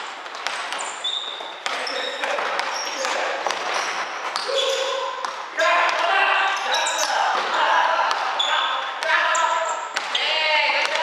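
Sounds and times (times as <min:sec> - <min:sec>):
basketball bouncing on wooden court: 0:00.0 - 0:10.2
sneakers squeaking: 0:00.0 - 0:11.0.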